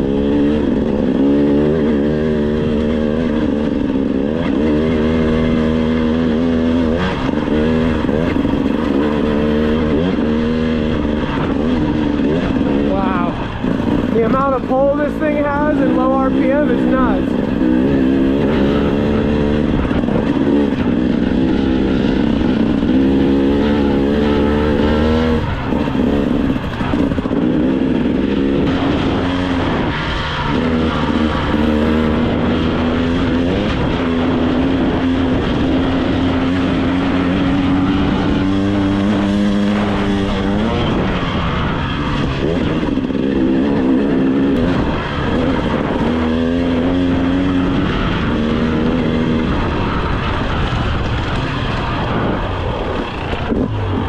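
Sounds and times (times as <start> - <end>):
two-stroke dirt bike engine: 0.0 - 54.0.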